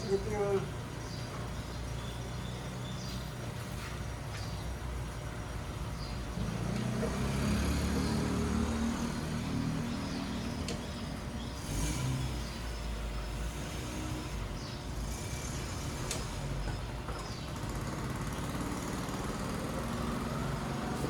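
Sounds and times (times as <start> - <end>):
engine running with low rumble: 0.0 - 21.0.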